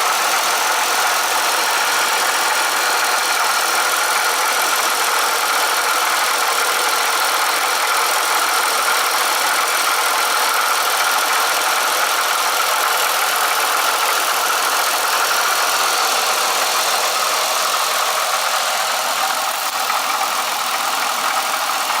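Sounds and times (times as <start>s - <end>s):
engine rattle: 0.0s - 22.0s
motorcycle engine idling: 0.0s - 22.0s.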